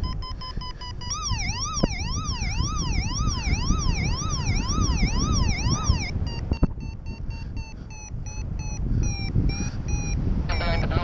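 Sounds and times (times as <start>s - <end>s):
variometer short beeps: 0.0s - 11.0s
variometer warbling tone: 0.0s - 11.0s
wind rumbling on microphone: 0.0s - 11.0s.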